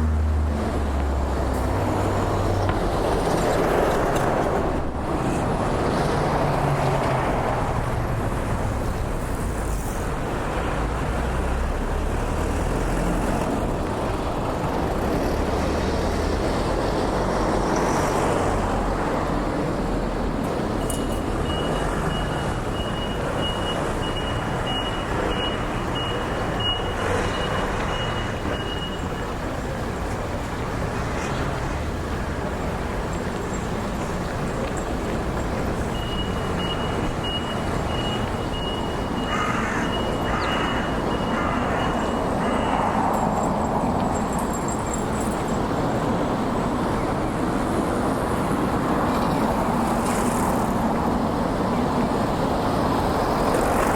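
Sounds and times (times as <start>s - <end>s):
road traffic passing: 0.0s - 53.9s.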